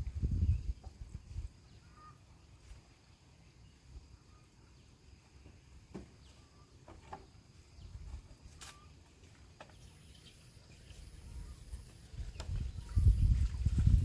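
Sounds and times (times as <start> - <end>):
faint bird chirps: 0.1 - 14.0.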